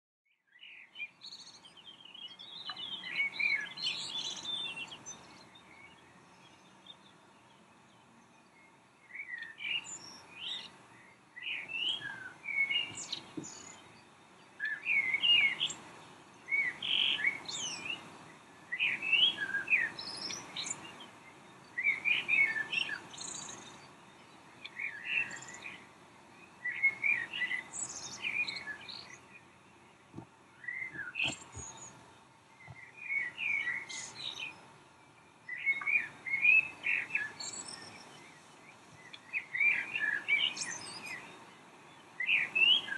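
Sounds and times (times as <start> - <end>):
bird chirping: 0.3 - 42.9.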